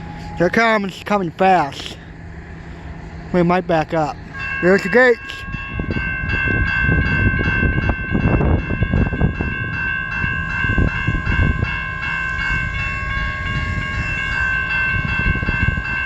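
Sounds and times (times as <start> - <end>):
crossing warning bell ringing: 0.0 - 16.0
freight train rumble: 0.0 - 16.0.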